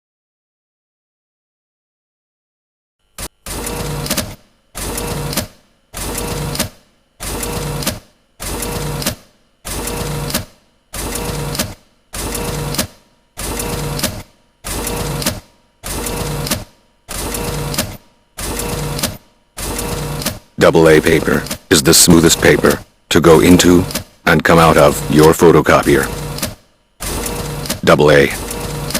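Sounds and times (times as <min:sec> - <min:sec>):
photocopier running: 0:03.0 - 0:28.9.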